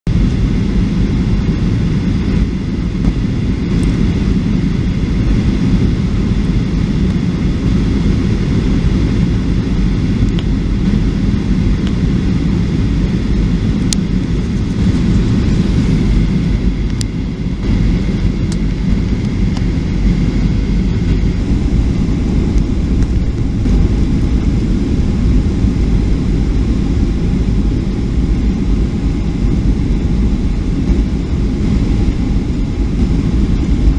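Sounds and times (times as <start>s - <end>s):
faint high engine whine: 0.1s - 33.9s
jet engines rumbling: 0.1s - 33.9s.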